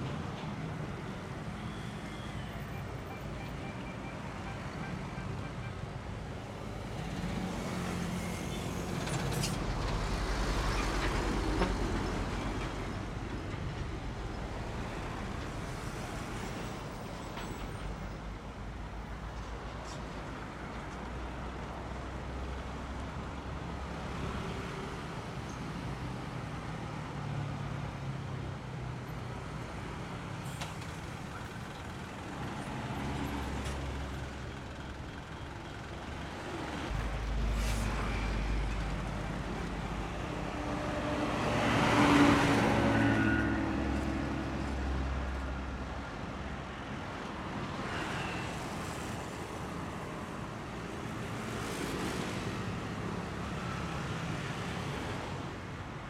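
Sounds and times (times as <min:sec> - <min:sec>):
diesel engines of passing vehicles: 0:00.0 - 0:56.0.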